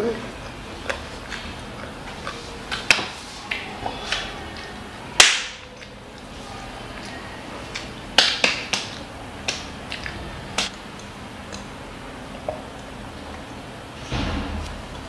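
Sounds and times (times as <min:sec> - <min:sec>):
child chewing with lip smacks: 0:00.2 - 0:04.8, 0:05.7 - 0:13.8.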